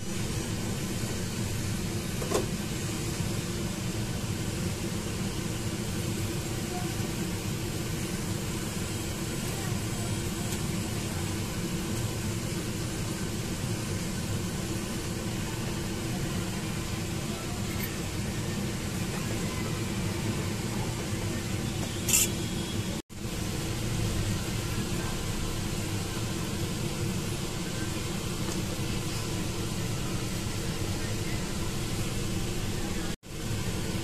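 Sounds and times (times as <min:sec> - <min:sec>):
gas flame hiss: 0:00.0 - 0:34.0.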